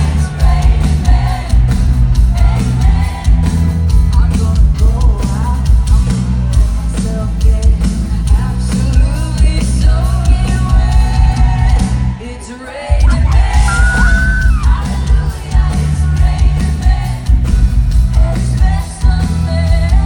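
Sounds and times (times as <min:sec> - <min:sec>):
lead vocal singing: 0:00.0 - 0:20.0
live pop band music: 0:00.0 - 0:20.0.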